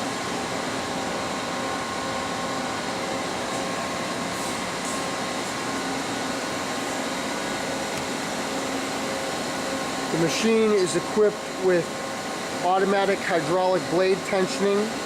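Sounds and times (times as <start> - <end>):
machinery whirring hum: 0.0 - 15.0.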